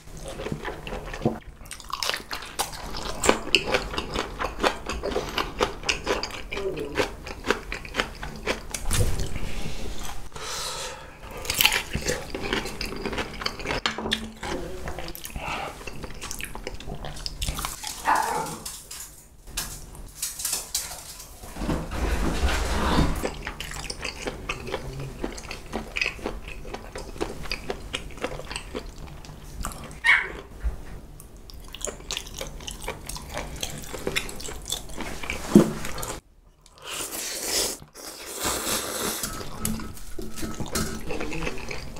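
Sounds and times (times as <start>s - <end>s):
chewing and slurping noodles: 0.0s - 10.3s, 11.3s - 18.5s, 23.2s - 30.5s, 31.5s - 41.9s.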